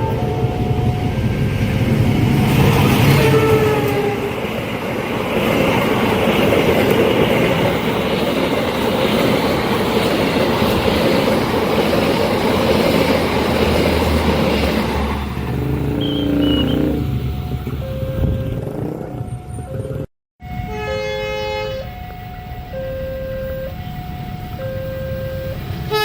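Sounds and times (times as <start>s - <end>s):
train running over rails: 0.0s - 26.0s.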